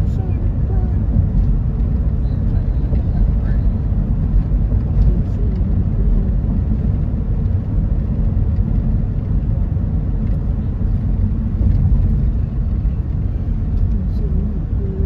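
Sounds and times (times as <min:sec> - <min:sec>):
car driving: 0:00.0 - 0:15.0.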